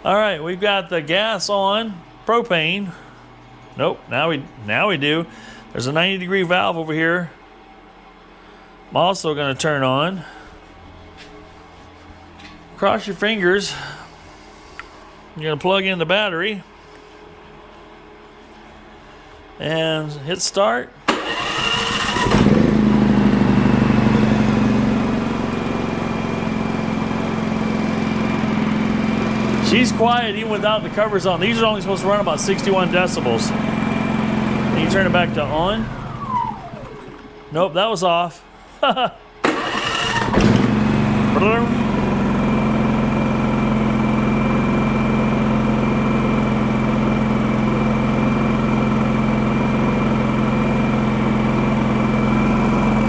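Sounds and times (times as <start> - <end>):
generator engine running: 0.0 - 15.9, 21.0 - 37.6, 39.4 - 53.0.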